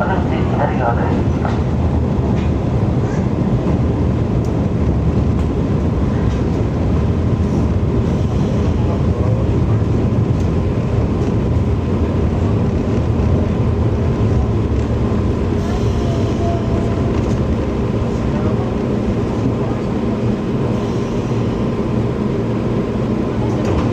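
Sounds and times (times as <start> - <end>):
train wheels rumbling: 0.0 - 23.9.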